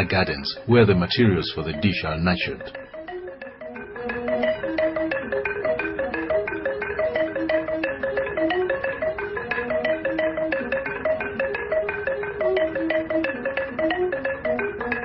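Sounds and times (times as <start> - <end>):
marimba music: 0.0 - 15.0.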